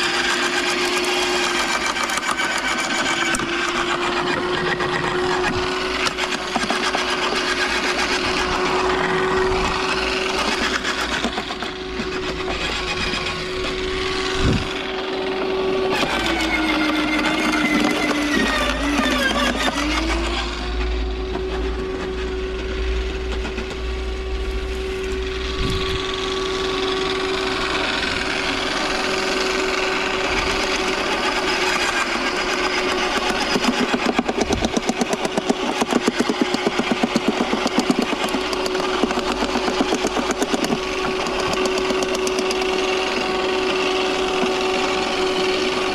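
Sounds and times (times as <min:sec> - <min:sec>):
garden shredder humming: 0:00.0 - 0:45.9.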